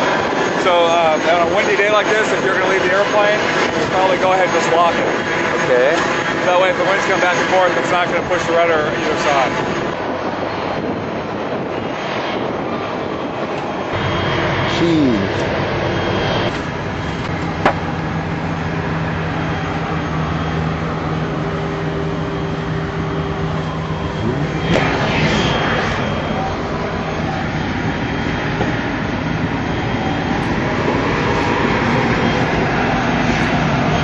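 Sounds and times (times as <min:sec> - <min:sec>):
aircraft engine hum: 0:00.0 - 0:34.0.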